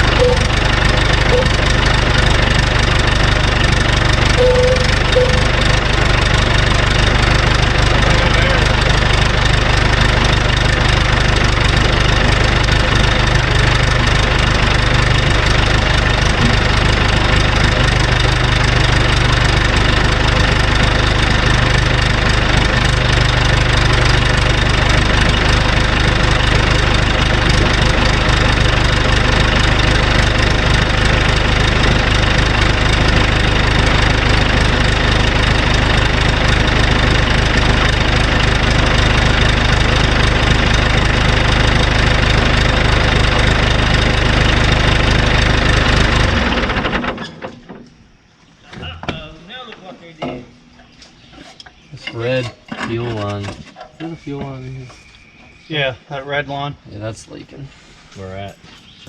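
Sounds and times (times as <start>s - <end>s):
diesel engine idling: 0.0s - 53.4s.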